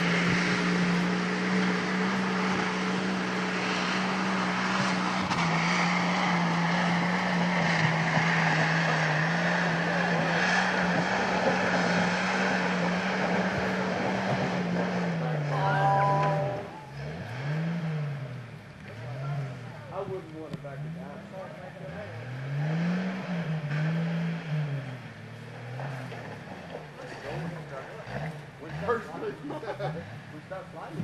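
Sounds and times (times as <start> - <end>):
vehicle engine droning at high revs: 0.0 - 31.0.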